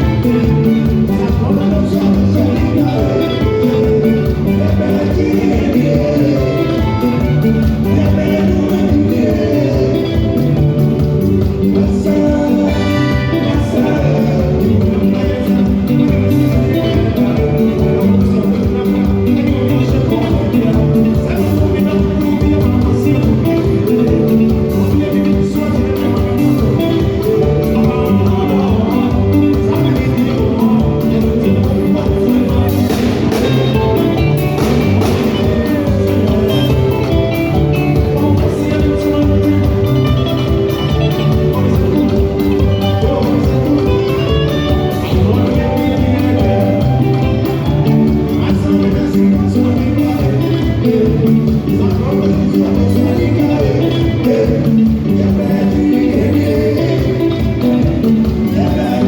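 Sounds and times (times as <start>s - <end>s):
background music with beat and guitar: 0.0s - 59.0s
person singing: 0.0s - 59.0s.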